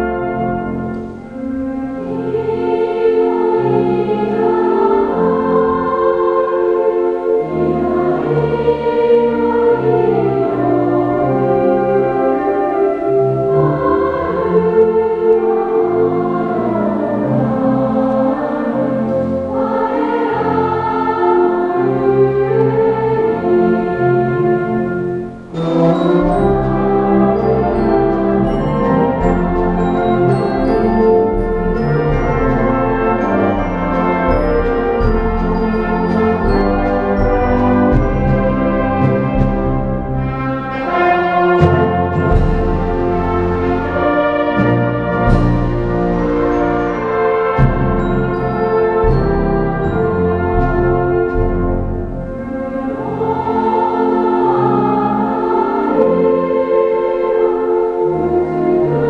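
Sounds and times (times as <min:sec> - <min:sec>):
choir singing in parts: 0:00.0 - 0:59.0
instrumental accompaniment: 0:00.0 - 0:59.0.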